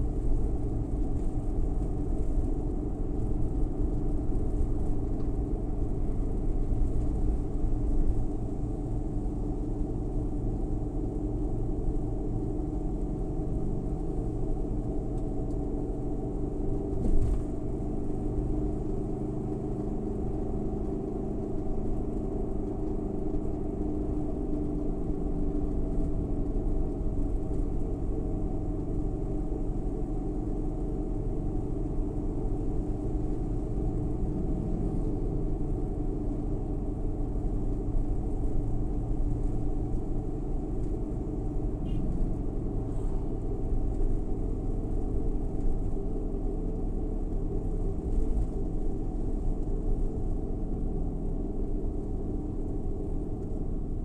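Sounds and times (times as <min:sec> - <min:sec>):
van engine and road noise: 0:00.0 - 0:54.0.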